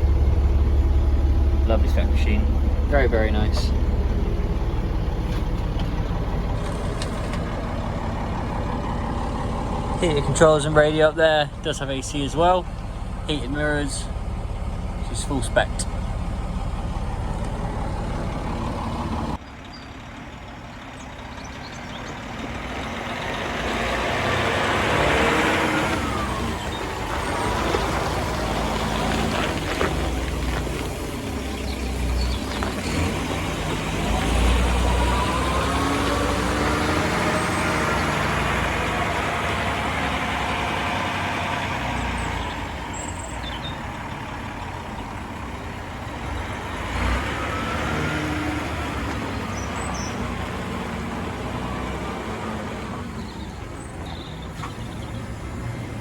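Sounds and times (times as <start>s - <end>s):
dump truck engine running: 0.0s - 56.0s.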